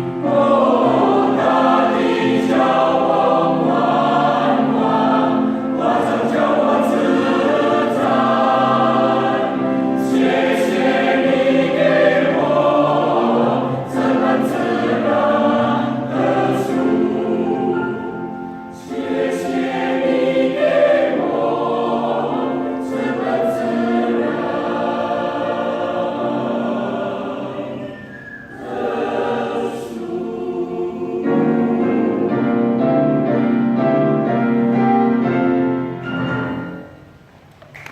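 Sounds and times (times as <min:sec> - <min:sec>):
mixed choir singing: 0:00.0 - 0:34.2.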